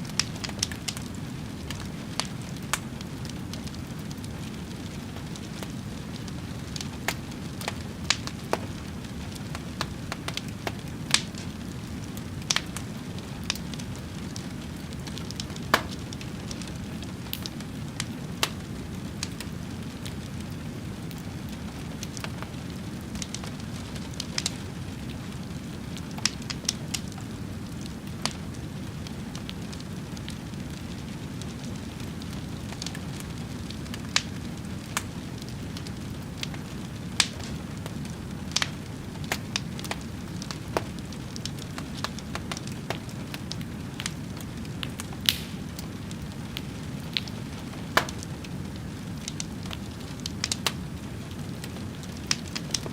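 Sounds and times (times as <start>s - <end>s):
fire pops and crackles: 0.0s - 52.9s
wood fire burning: 0.0s - 52.9s.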